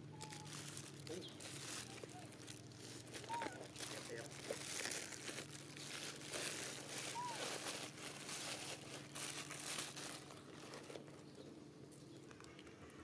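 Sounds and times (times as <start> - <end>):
rustling crinkling noise: 0.0 - 11.6.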